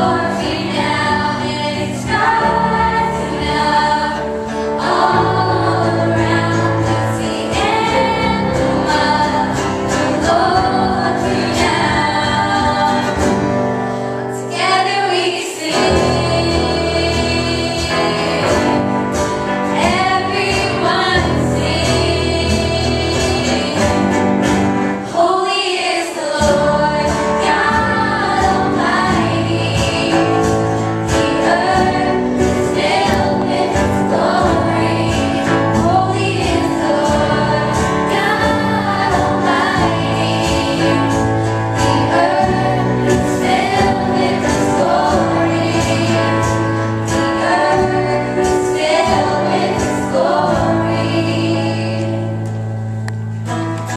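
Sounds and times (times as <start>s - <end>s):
girls singing together: 0.0s - 52.6s
live band playing: 0.0s - 53.9s.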